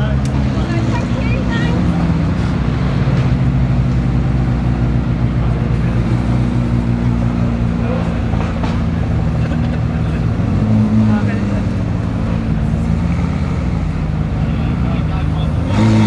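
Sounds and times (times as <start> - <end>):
car engines running at low revs: 0.0 - 16.0.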